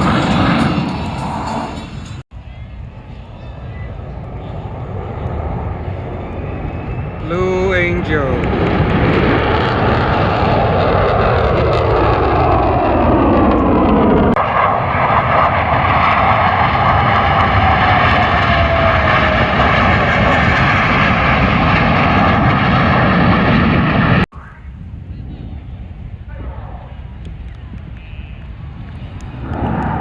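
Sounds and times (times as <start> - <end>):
jet fighters flying past: 0.0 - 30.0.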